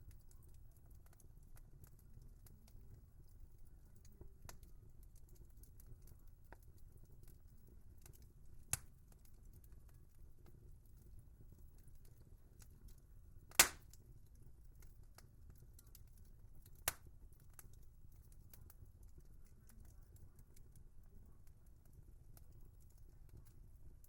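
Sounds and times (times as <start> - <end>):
fire popping: 0.0 - 24.0
low rumble of flames: 0.0 - 24.0
wood fire crackling: 0.0 - 24.0.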